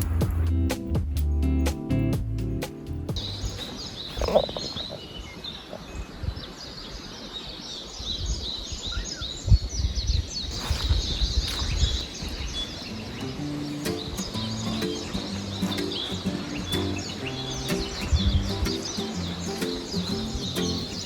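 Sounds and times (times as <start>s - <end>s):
small birds chirping: 2.6s - 21.0s.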